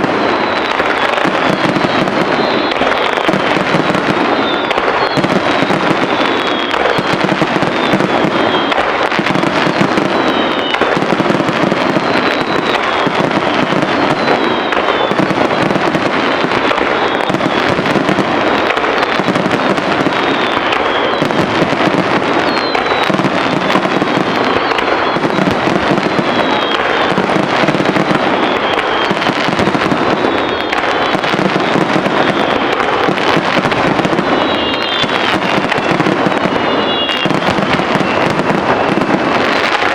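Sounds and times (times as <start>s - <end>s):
firework whistles: 0.0s - 39.9s
fireworks bangs and crackle: 0.0s - 39.9s.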